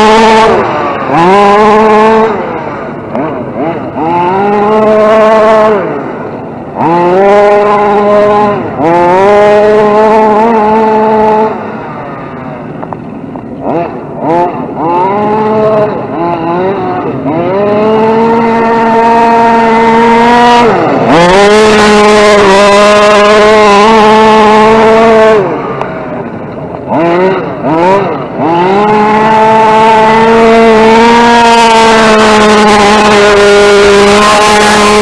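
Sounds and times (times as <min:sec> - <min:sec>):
rc truck motor whine: 0:00.0 - 0:35.0.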